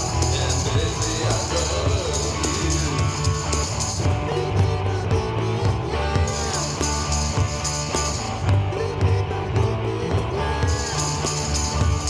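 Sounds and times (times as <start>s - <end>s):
electric bass: 0.0s - 12.0s.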